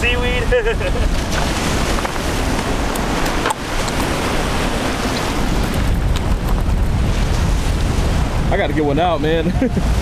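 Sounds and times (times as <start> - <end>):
surf: 0.0 - 10.0
wind buffeting microphone: 0.0 - 10.0.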